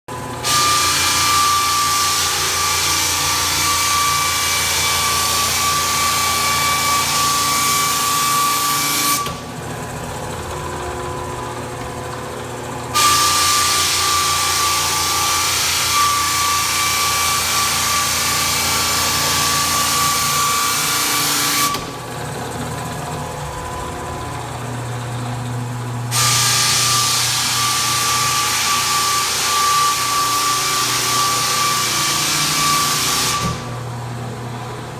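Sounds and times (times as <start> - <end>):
floor sander hissing whine: 0.1 - 34.9.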